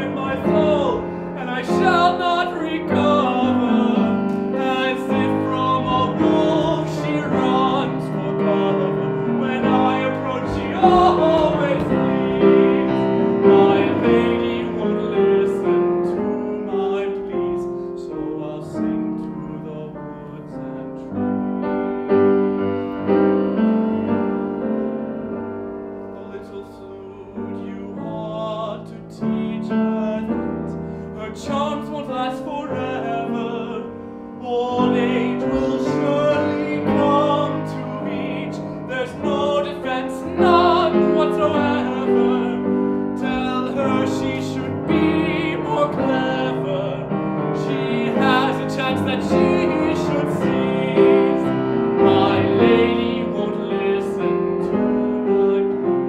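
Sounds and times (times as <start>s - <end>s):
man singing operatically: 0.0s - 22.4s, 26.1s - 56.0s
piano: 0.0s - 56.0s.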